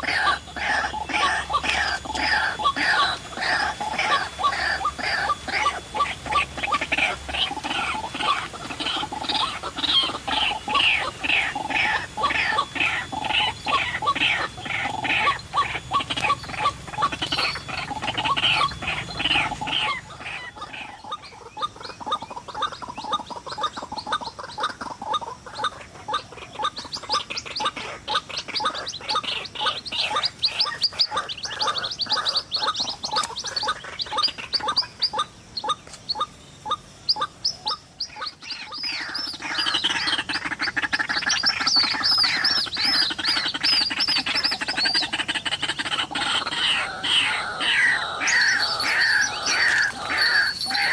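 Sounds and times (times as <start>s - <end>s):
waterhens calling rapidly: 0.0s - 50.9s.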